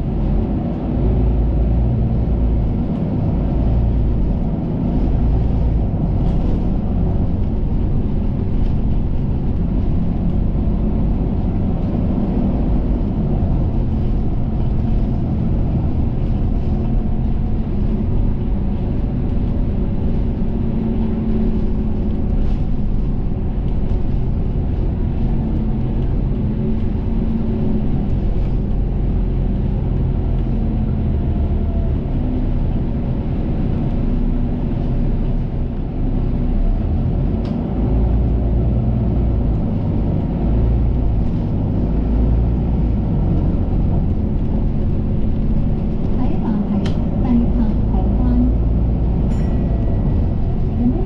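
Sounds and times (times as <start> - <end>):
bus engine and road rumble: 0.0 - 51.0.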